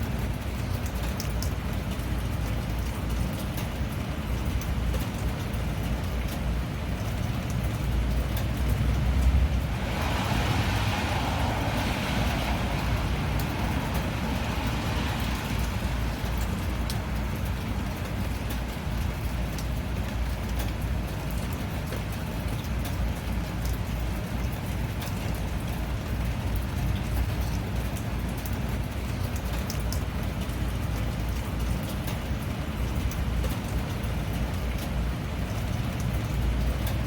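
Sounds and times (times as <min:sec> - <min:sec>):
rain drop ticks: 0:00.0 - 0:37.0
steady rain: 0:00.0 - 0:37.0
vehicle passing on wet road: 0:05.9 - 0:37.0.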